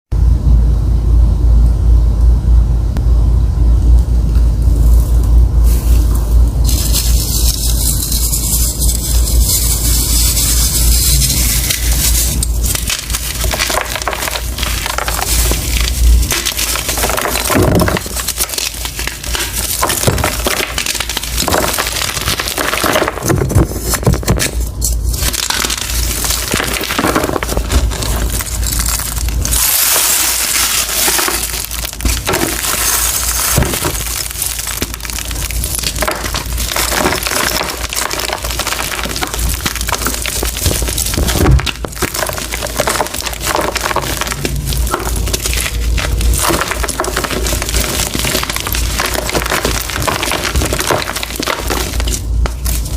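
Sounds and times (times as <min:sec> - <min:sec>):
chalk block crunching: 0:05.7 - 0:52.9.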